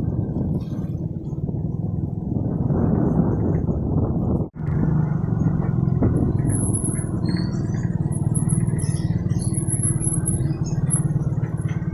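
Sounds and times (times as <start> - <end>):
motorcycle engine rumbling: 0.0 - 11.9.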